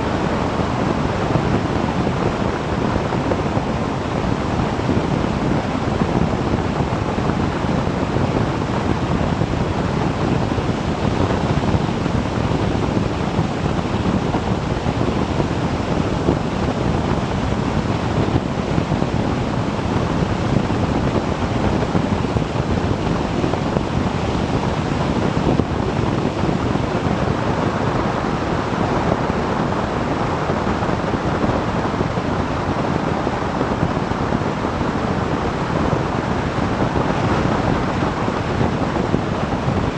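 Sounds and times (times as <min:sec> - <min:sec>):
motorcycle engine and road noise: 0:00.0 - 0:39.9
wind rush on microphone: 0:00.0 - 0:39.9.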